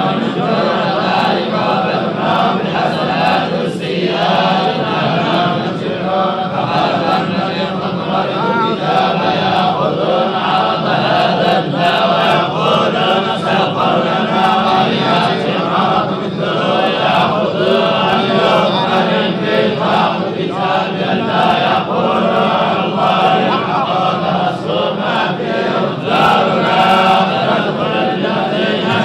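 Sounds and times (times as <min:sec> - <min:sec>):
men chanting recitation: 0:00.0 - 0:29.0.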